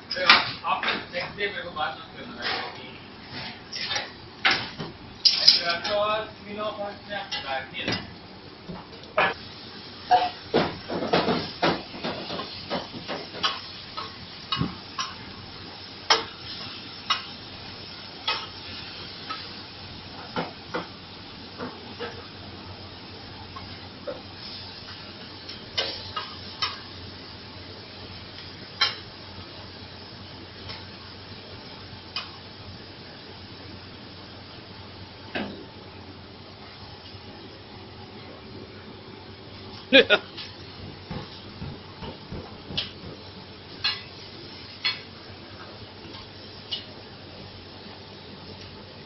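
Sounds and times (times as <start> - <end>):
steady hiss: 0.0 - 49.0
meat sizzling on griddle: 2.4 - 38.0, 38.7 - 49.0.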